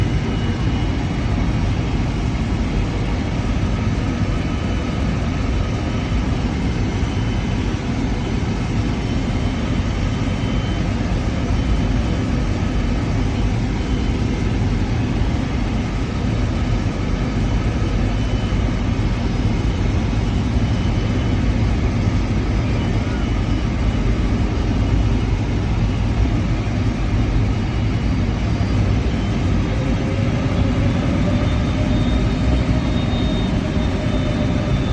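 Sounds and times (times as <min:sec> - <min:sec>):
aircraft cabin engine rumble: 0:00.0 - 0:34.9
faint steady tones: 0:00.0 - 0:34.9.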